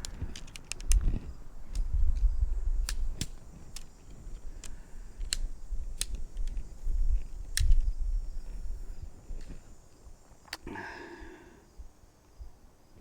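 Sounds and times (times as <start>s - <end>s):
tent poles clicking: 0.0s - 10.7s.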